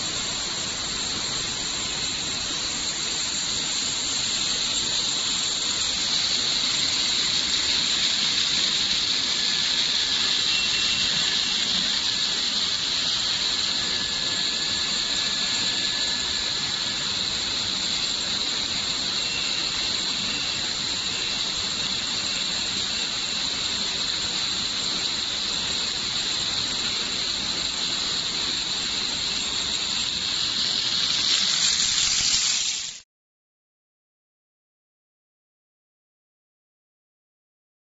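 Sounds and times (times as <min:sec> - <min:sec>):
faint thin whistling tones: 0:00.0 - 0:33.0
steam hissing: 0:00.0 - 0:33.0.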